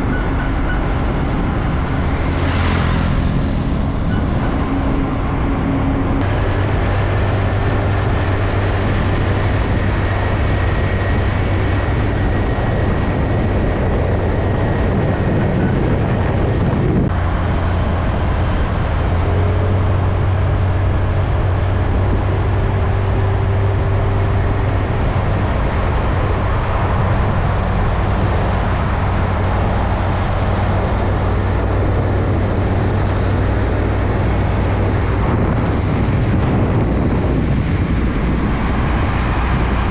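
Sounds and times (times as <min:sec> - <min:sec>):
heavy road traffic drone: 0:00.0 - 0:39.9.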